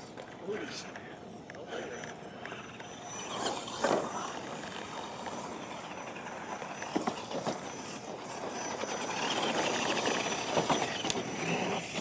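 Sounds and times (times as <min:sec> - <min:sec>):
radio-controlled trucks driving: 0:00.0 - 0:12.0.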